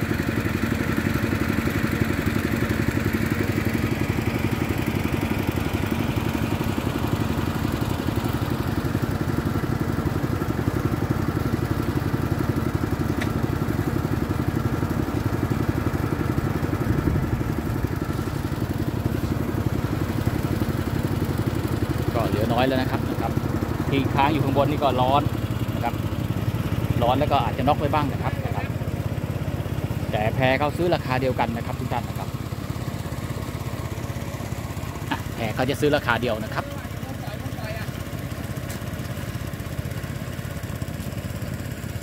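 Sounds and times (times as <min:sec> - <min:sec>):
water pump engine running: 0:00.0 - 0:42.0.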